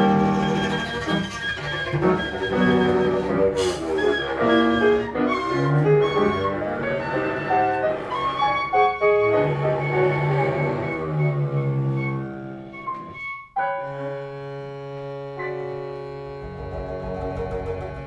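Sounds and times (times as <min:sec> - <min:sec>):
bowed cello: 0:00.0 - 0:18.0.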